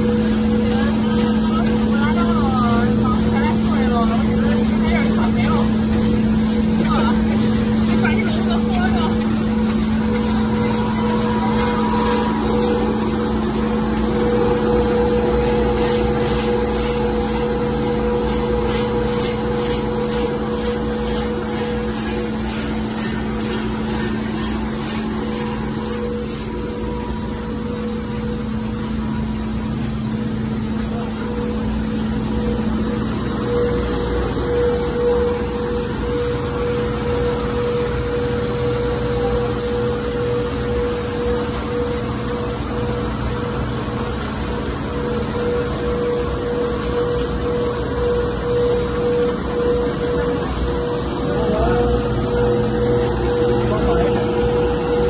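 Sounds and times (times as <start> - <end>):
roasting machine humming: 0.0 - 55.0.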